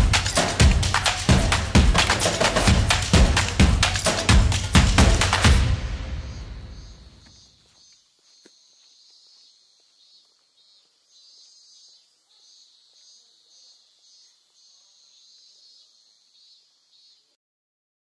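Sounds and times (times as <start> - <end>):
crickets chirping: 0.0 - 17.3.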